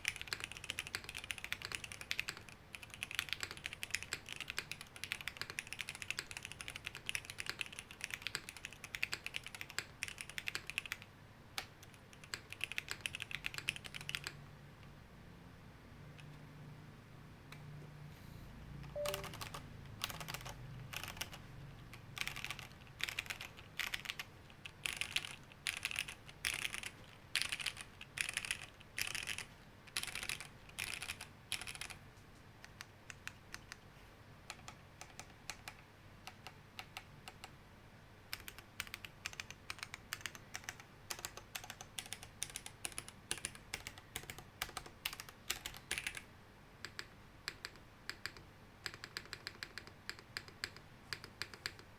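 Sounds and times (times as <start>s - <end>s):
mechanical keyboard typing: 0.0s - 14.4s, 18.9s - 32.0s, 34.5s - 37.6s, 38.3s - 51.9s.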